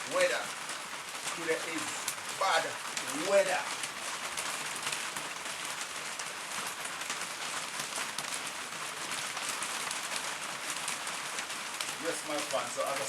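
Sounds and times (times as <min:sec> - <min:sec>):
hailstones ticking: 0:00.0 - 0:13.0
heavy rain and hail hissing: 0:00.0 - 0:13.0.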